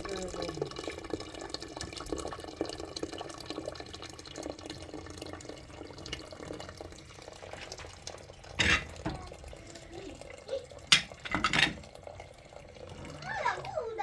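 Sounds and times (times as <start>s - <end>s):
rain pattering and dripping: 0.0s - 14.0s.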